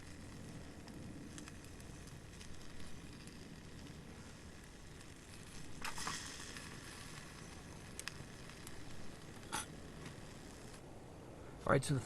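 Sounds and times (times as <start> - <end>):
food sizzling on a grill: 0.0 - 10.8
burning wood popping: 0.0 - 11.5.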